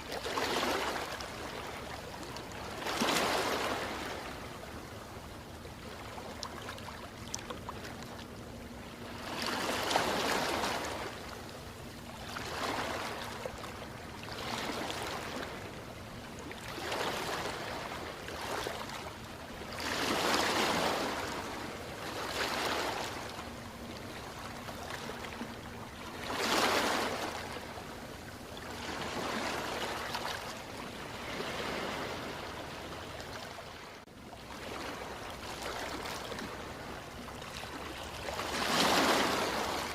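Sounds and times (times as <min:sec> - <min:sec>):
ocean waves washing in: 0:00.0 - 0:08.0, 0:08.6 - 0:39.9.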